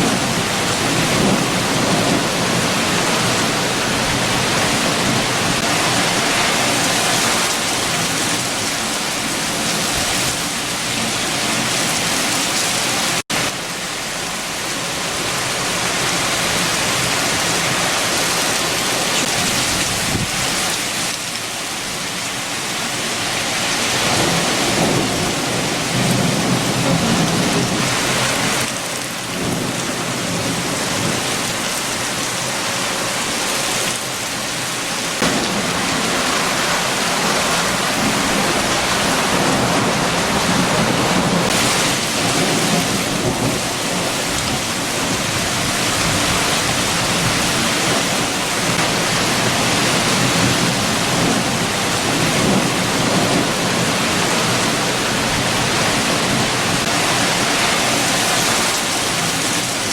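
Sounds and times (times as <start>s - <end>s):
heavy rain: 0.0s - 59.9s
strong wind: 0.0s - 59.9s.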